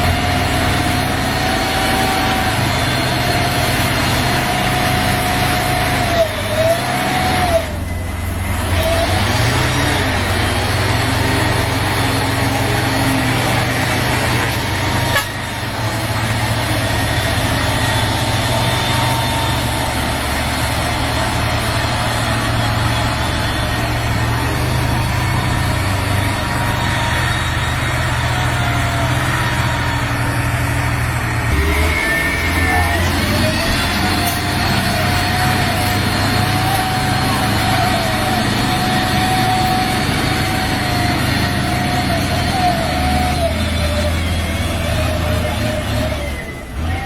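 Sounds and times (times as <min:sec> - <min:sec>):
vehicle engine drone: 0:00.0 - 0:47.0.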